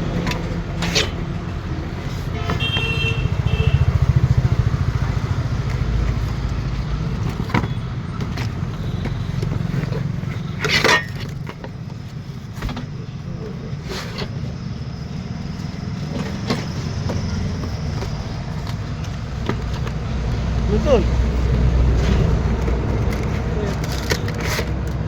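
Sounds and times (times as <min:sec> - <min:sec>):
low engine rumble: 0:00.0 - 0:24.4.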